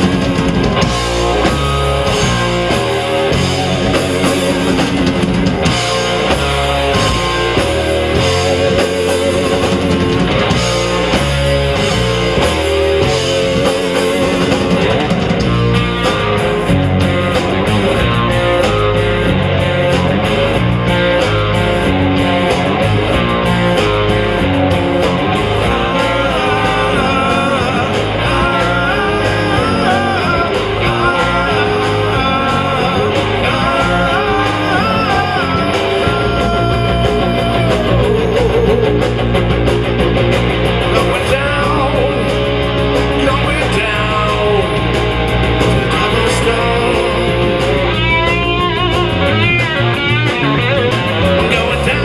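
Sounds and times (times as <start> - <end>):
electric guitars: 0.0 - 52.0
live rock band playing: 0.0 - 52.0.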